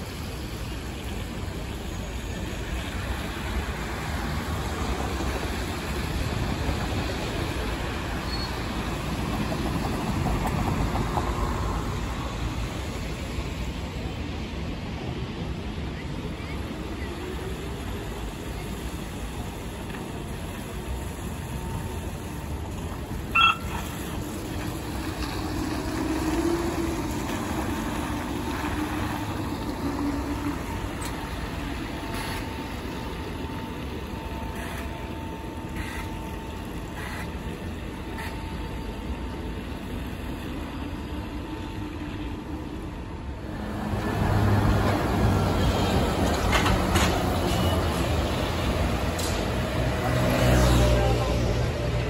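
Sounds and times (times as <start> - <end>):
bus passing on wet road: 0.0 - 52.0
city street traffic: 0.0 - 52.0.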